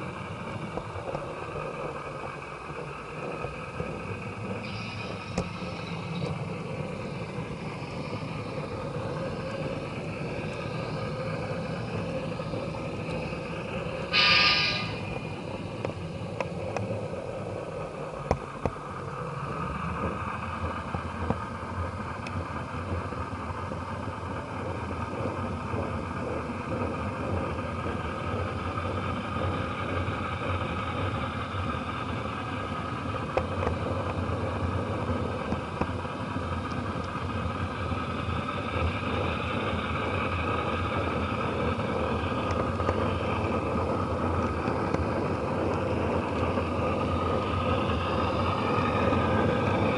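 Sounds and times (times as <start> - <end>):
model train rolling rumble: 0.0 - 49.9.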